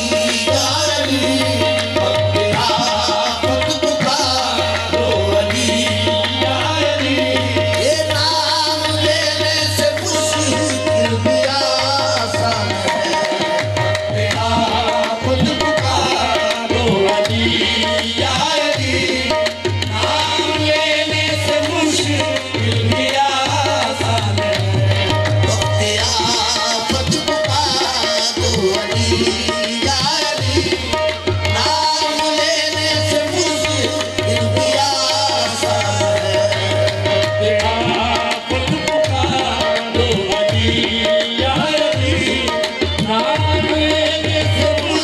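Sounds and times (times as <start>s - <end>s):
harmonium: 0.0s - 45.0s
tabla drumming: 0.0s - 45.0s
voices singing: 0.0s - 45.0s.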